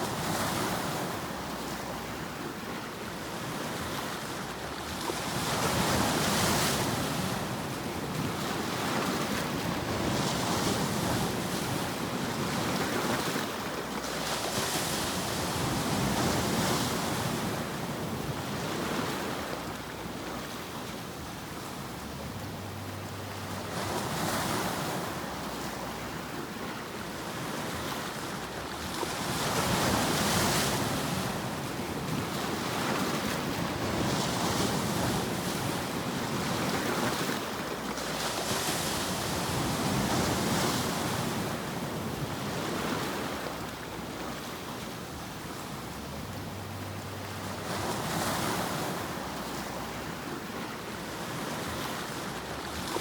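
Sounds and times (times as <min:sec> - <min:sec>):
ocean waves washing: 0:00.0 - 0:53.0.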